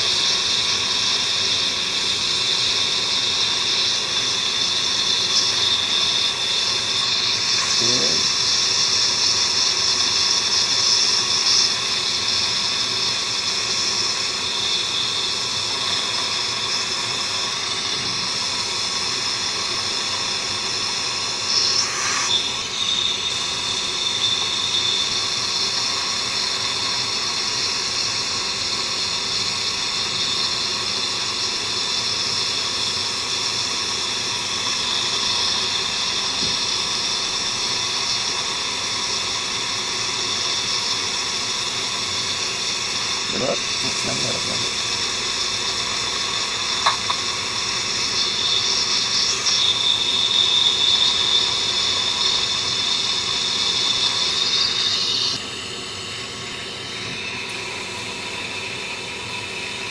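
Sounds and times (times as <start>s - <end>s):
dental equipment hiss and whine: 0.0s - 59.9s.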